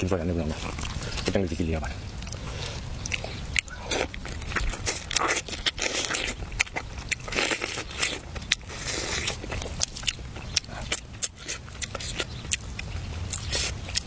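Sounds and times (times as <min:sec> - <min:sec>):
crunchy food being chewed: 0:00.3 - 0:14.0.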